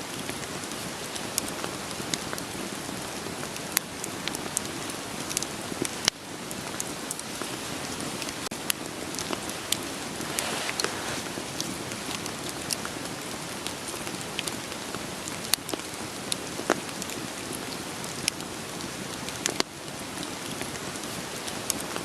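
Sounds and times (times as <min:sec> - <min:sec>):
steady rain: 0:00.0 - 0:22.0
wood fire crackling: 0:00.1 - 0:22.0.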